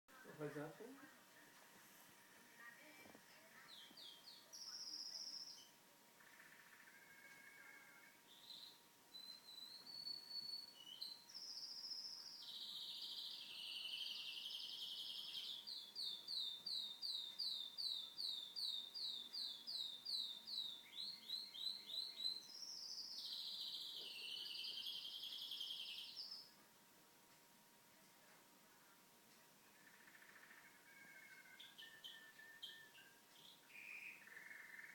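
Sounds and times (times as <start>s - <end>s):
canary singing trills: 2.6s - 26.6s, 29.6s - 34.9s.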